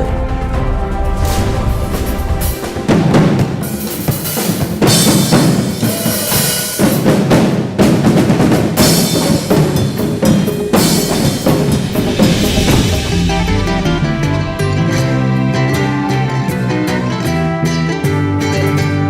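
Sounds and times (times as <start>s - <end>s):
drums in a busy rhythm: 0.0s - 19.0s
other instruments: 0.0s - 19.0s.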